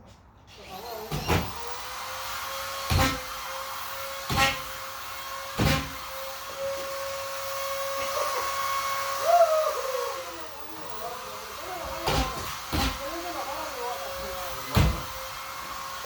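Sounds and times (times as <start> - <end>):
vacuum cleaner whine: 0.7 - 16.0.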